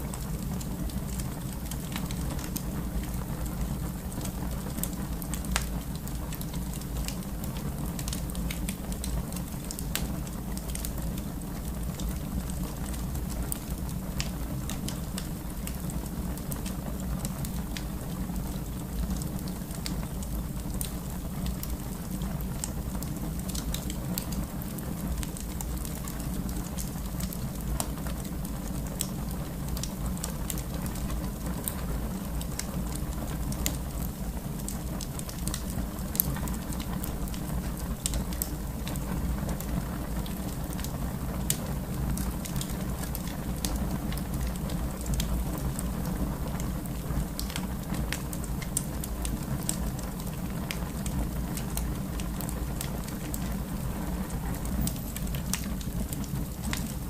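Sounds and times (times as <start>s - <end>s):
fire crackling in a fireplace: 0.0s - 57.0s.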